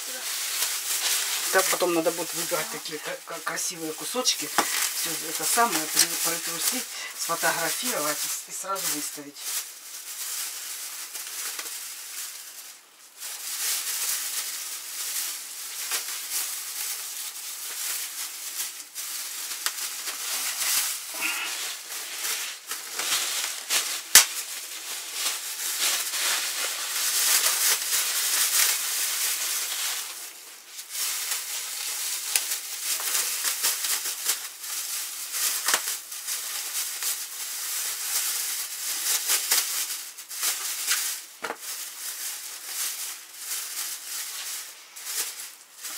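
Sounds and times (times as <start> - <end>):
plastic bags crinkling: 0.0 - 45.9.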